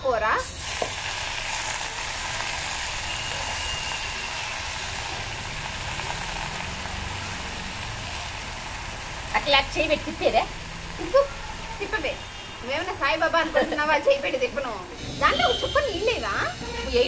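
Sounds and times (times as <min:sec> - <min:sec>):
leaves sizzling in hot oil: 0:00.2 - 0:16.1.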